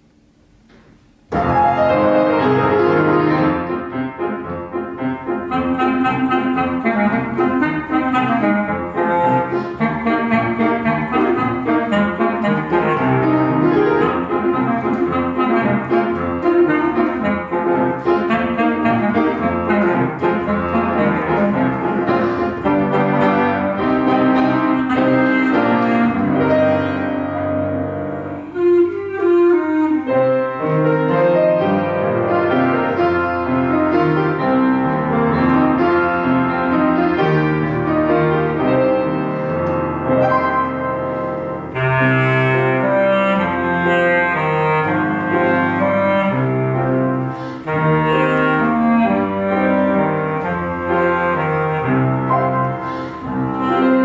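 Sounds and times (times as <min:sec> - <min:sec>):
piano accompaniment: 0:00.0 - 0:54.0
double-reed horn melody: 0:01.3 - 0:54.0.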